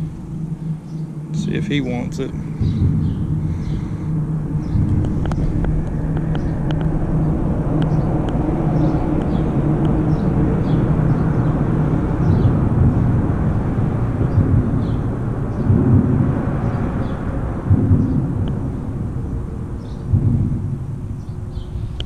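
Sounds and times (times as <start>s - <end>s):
low rumble with hum: 0.0s - 22.0s.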